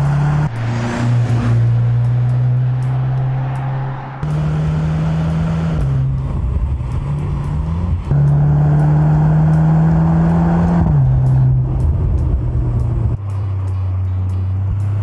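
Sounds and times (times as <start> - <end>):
car engine revving high: 0.0 - 13.2.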